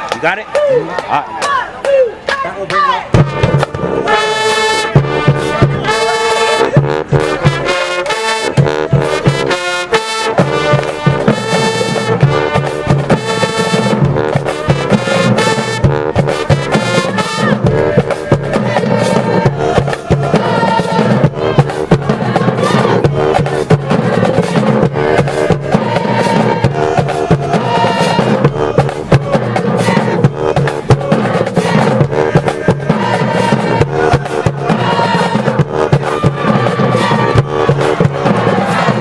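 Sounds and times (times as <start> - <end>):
marching band brass chords: 0.0 - 39.0.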